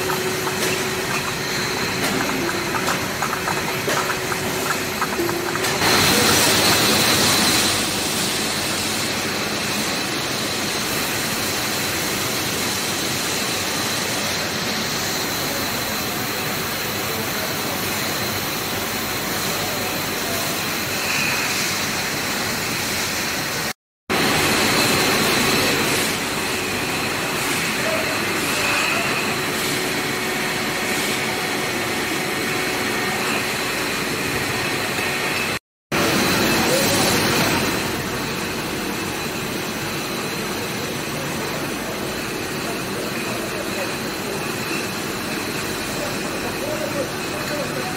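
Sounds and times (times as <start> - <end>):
bottling line conveyor noise: 0.0 - 47.9.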